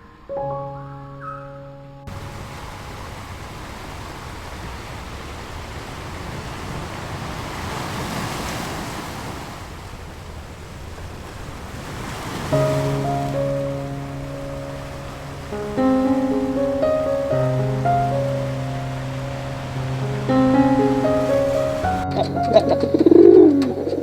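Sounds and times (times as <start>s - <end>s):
ocean surf rushing: 2.1s - 24.0s.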